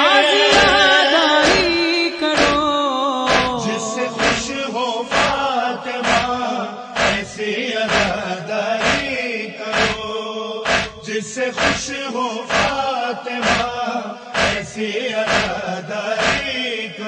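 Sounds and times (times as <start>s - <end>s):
mourning chant: 0.0s - 17.0s
steady thumping beat: 0.5s - 1.8s, 2.4s - 2.7s, 3.3s - 13.8s, 14.4s - 16.7s.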